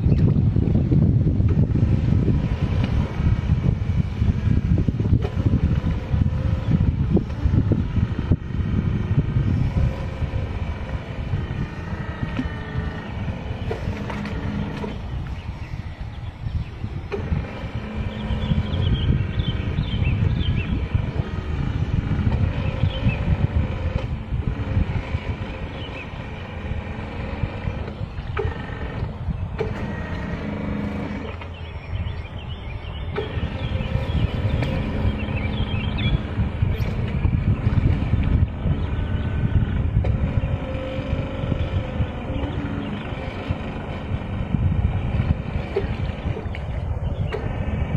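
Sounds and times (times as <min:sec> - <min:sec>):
electric motors whining: 0:00.0 - 0:47.9
wind rumble on microphone: 0:00.0 - 0:47.9.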